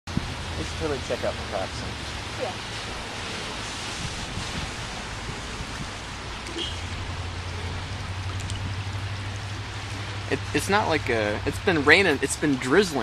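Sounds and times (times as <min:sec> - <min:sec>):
light rain hissing: 0:00.1 - 0:13.0.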